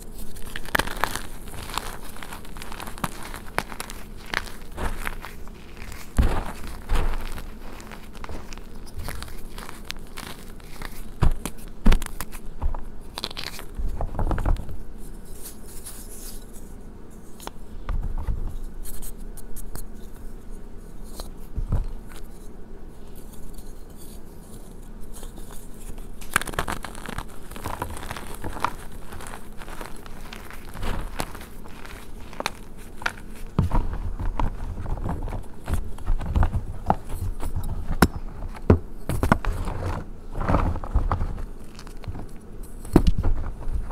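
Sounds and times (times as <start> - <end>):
chalk crushing and crackling: 0.0 - 17.8, 18.4 - 43.9.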